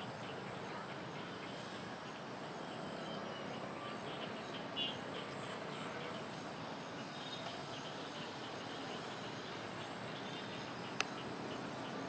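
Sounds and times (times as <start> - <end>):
background hiss: 0.0 - 12.0
high insect drone: 0.0 - 12.0.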